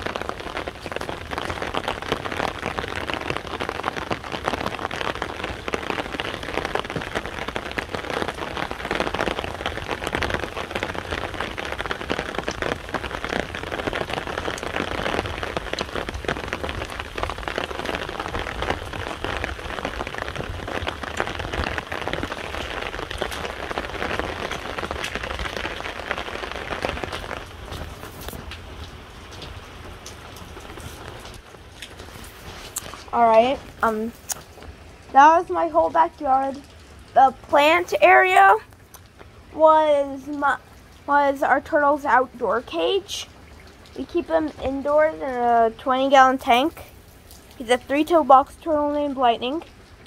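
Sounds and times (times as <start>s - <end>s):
rain drops crackling: 0.0s - 50.0s.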